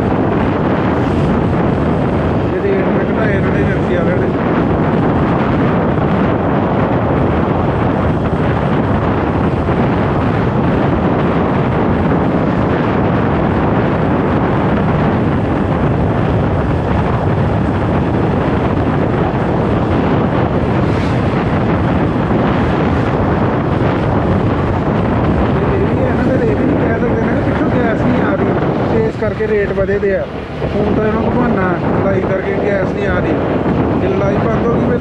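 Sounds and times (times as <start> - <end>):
road and vehicle noise: 0.0 - 35.0
wind buffeting microphone: 0.0 - 35.0.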